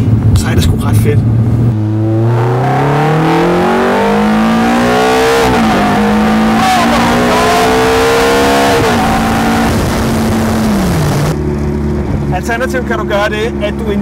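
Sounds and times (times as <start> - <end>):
sports car engine accelerating: 1.2 - 14.0.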